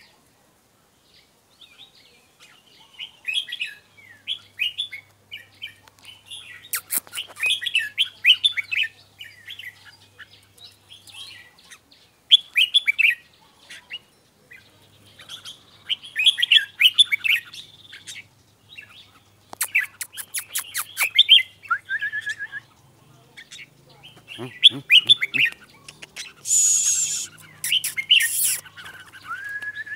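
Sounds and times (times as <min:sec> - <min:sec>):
bird singing warbled phrases: 0:01.6 - 0:29.9.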